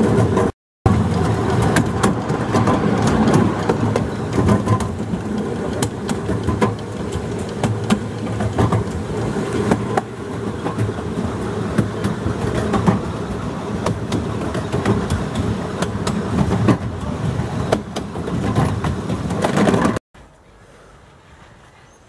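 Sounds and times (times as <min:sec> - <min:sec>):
clacks over rail joints: 0:00.0 - 0:20.0
low rumble of wheels on rail: 0:00.0 - 0:22.0.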